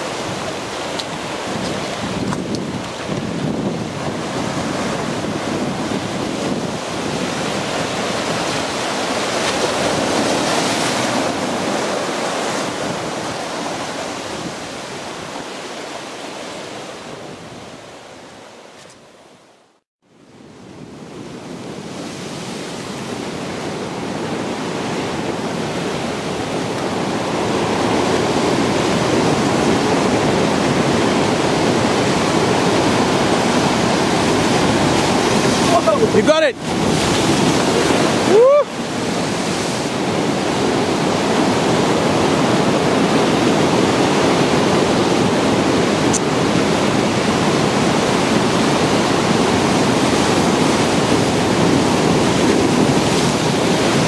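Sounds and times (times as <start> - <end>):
ocean surf breaking over rocks: 0.0 - 18.8, 20.3 - 54.0.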